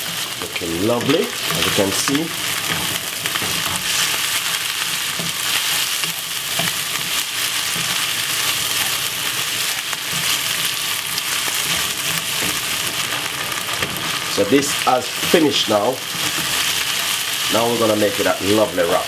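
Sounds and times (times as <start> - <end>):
food sizzling in oil: 0.0 - 19.0
wooden spatula scraping wok: 0.0 - 19.0.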